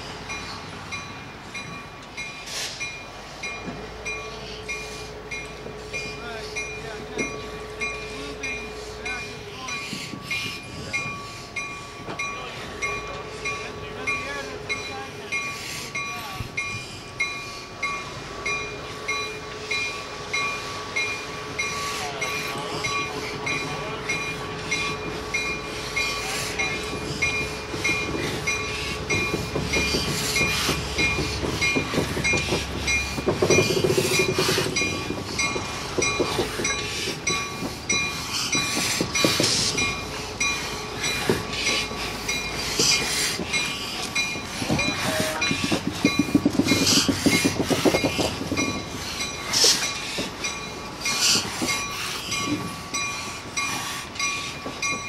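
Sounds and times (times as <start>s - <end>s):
locomotive engine running: 0.0s - 55.0s
steel wheels clicking and creaking: 0.2s - 55.0s.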